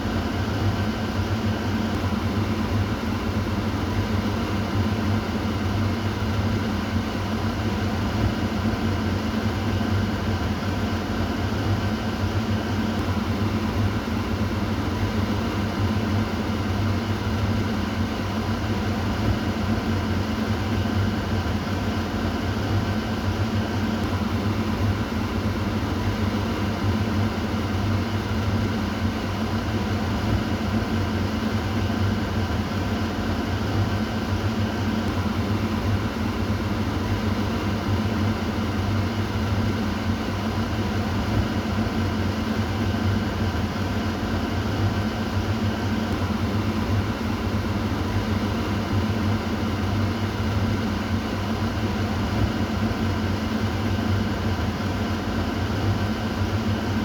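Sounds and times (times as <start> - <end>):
exhaust fan running: 0.0 - 57.0.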